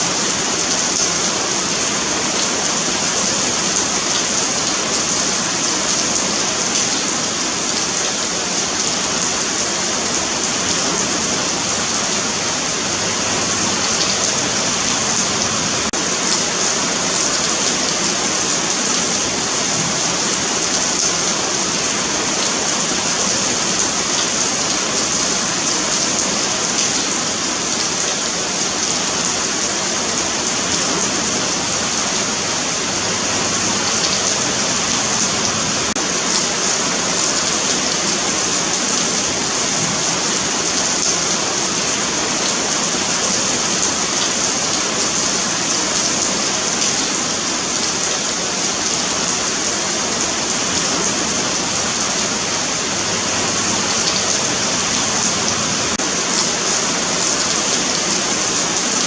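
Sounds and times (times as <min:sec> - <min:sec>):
rain on pavement: 0:00.0 - 0:59.0.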